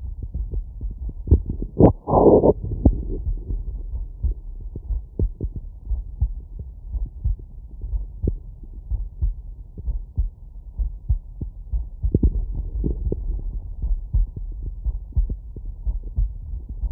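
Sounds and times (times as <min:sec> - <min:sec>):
heartbeat through stethoscope: 0:00.0 - 0:16.9.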